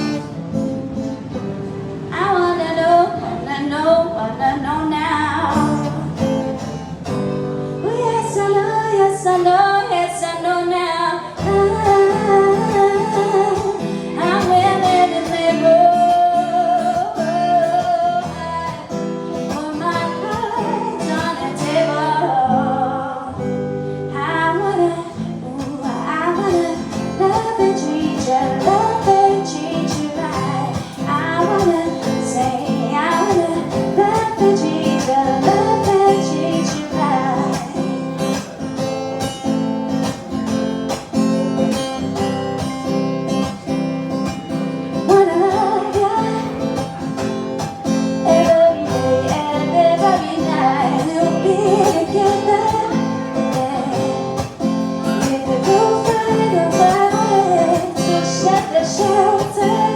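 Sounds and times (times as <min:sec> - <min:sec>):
acoustic guitar: 0:00.0 - 0:59.9
woman singing: 0:02.1 - 0:06.7, 0:07.7 - 0:40.3, 0:40.9 - 0:59.9.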